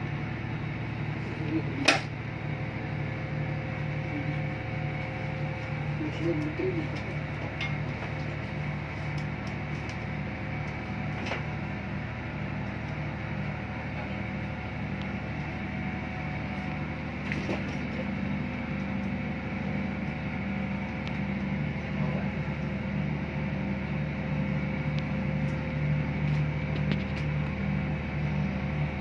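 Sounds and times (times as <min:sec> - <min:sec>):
diesel generator humming: 0:00.0 - 0:29.0.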